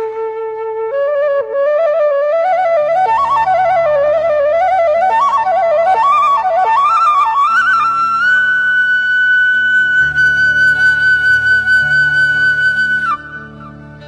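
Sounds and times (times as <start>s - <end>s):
flute melody: 0.0s - 14.0s.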